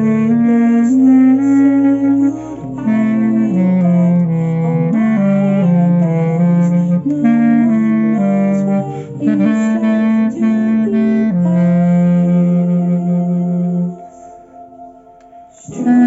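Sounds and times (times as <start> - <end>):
clarinet slow melody: 0.0 - 16.0.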